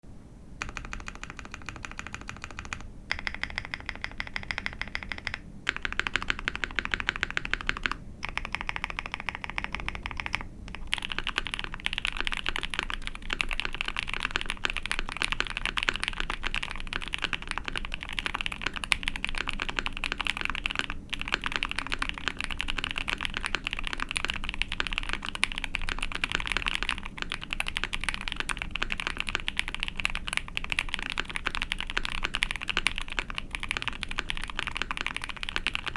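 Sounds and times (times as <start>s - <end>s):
mechanical keyboard typing: 0.6s - 35.9s.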